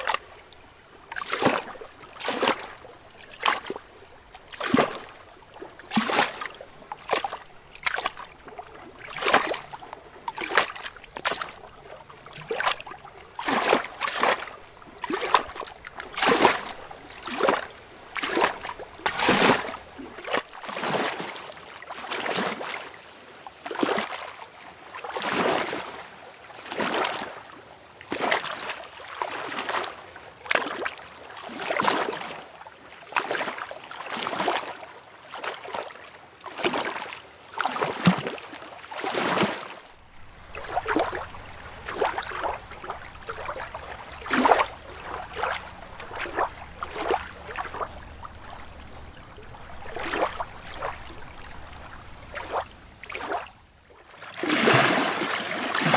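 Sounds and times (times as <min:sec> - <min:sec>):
lake water lapping and splashing: 0:00.0 - 0:55.9.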